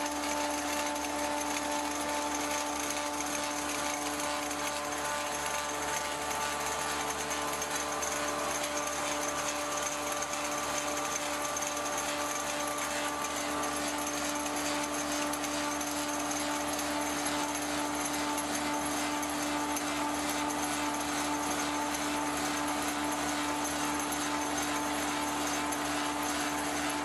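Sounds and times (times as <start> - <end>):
lathe whining: 0.0 - 27.0.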